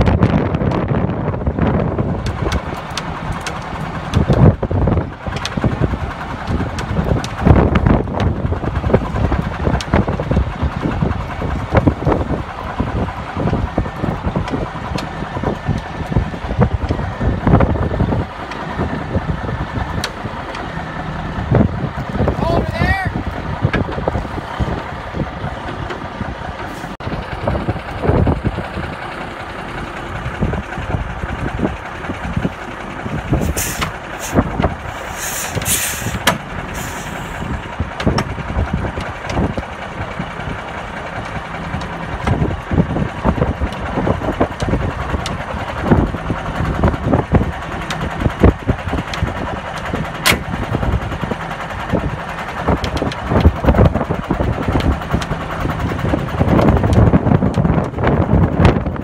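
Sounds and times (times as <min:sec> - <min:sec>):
diesel truck engines rumbling: 0:00.0 - 0:59.0.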